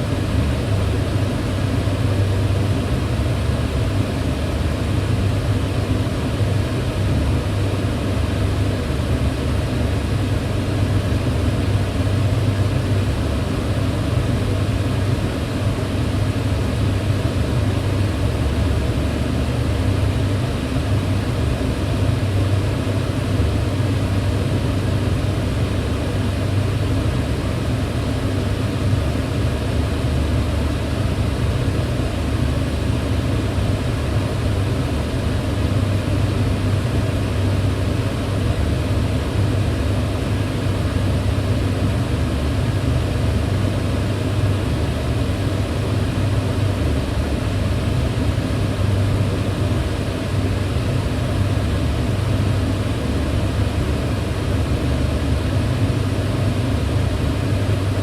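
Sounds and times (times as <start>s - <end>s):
range hood fan humming: 0.0s - 58.0s.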